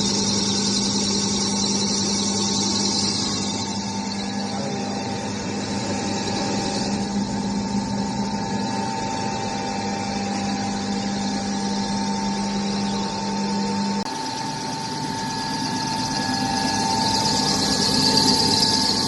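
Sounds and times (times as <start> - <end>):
extruder machine humming: 0.0 - 19.0.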